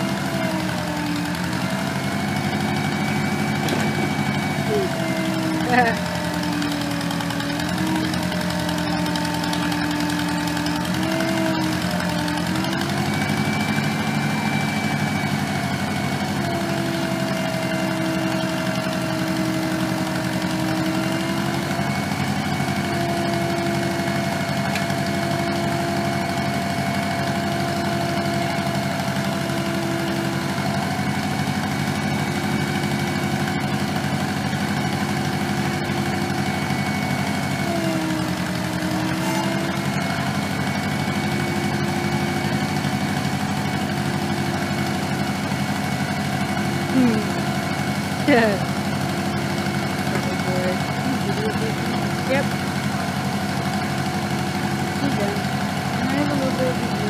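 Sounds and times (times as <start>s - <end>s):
hydraulic whine: 0.0s - 57.0s
tractor engine running: 0.0s - 57.0s.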